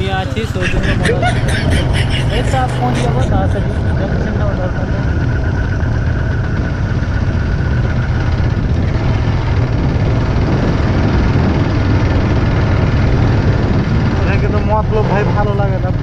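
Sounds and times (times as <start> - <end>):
motorcycle engine running: 0.0 - 16.0
wind rush and road noise: 0.0 - 16.0.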